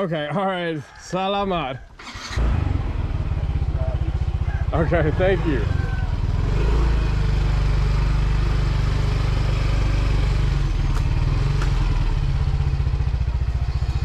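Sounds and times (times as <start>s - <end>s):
motorbike engine rumbling: 2.0s - 14.0s.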